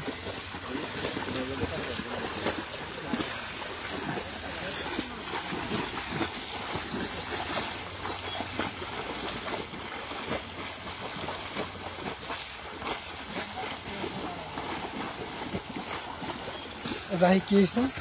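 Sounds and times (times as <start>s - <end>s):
shallow water splashing: 0.0s - 18.0s.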